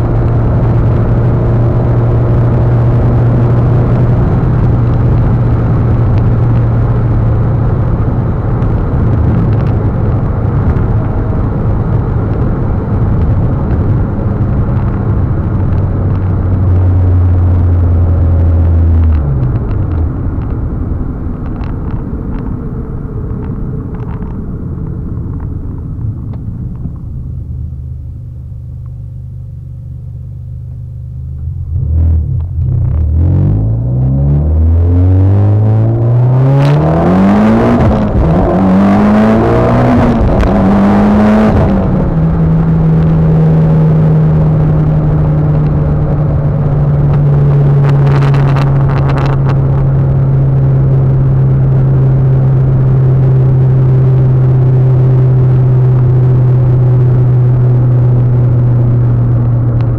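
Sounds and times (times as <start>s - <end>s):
car engine cruising: 0.0s - 59.9s
road and tyre noise: 0.0s - 59.9s.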